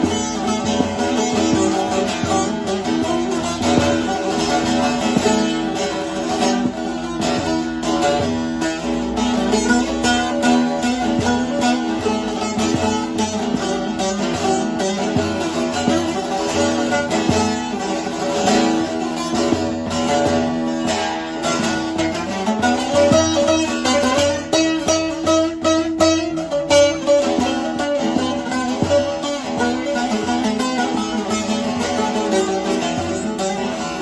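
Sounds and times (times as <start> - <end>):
long-neck lute fast melody: 0.0 - 34.0.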